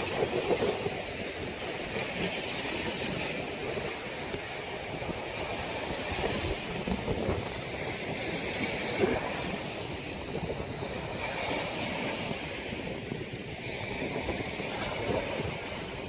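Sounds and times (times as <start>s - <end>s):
strong wind howling: 0.0s - 16.0s.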